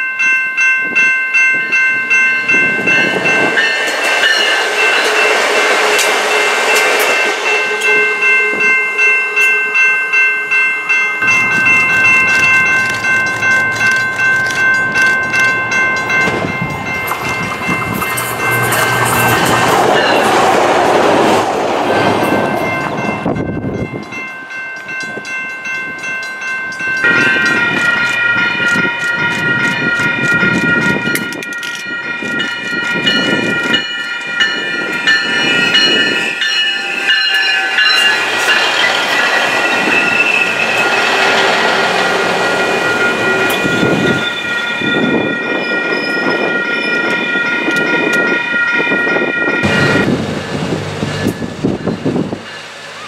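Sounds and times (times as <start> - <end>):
high-toned train signal: 0.0 - 53.0
diesel train rumbling past: 1.0 - 53.0.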